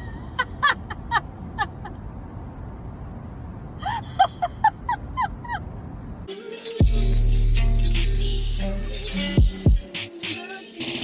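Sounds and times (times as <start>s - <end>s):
car low rumble: 0.0s - 9.8s.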